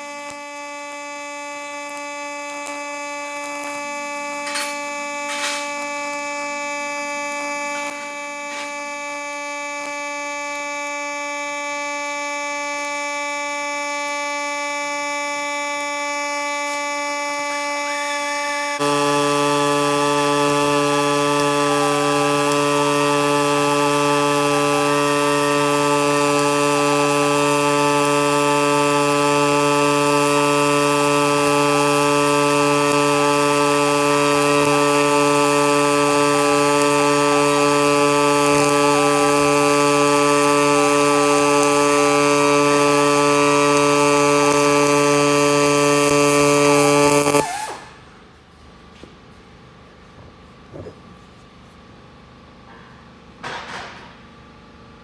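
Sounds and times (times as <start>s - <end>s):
welding arc buzzing: 0.0s - 48.1s.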